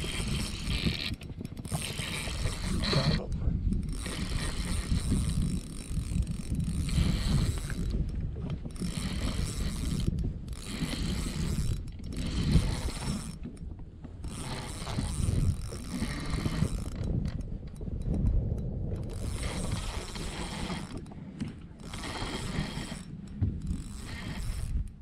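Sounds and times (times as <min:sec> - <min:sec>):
fishing reel ticking: 0:00.0 - 0:25.0.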